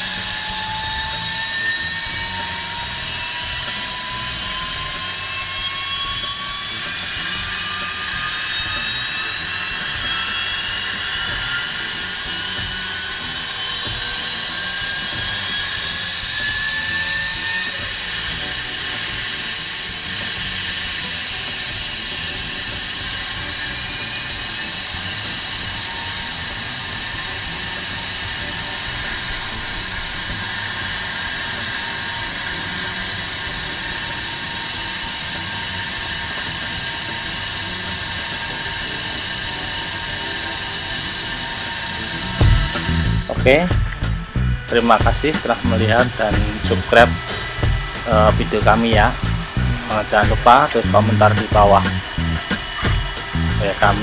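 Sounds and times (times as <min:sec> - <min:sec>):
gas turbine whine spooling up: 0:00.0 - 0:54.0.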